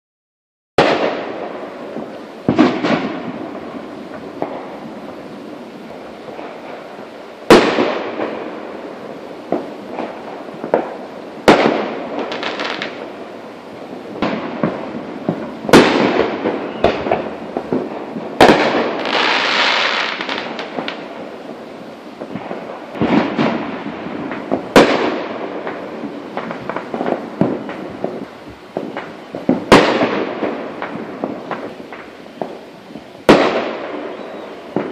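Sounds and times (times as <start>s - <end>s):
fireworks booming: 0.8s - 34.9s
fireworks crackling: 0.8s - 34.9s
hissing crackle: 0.8s - 34.9s.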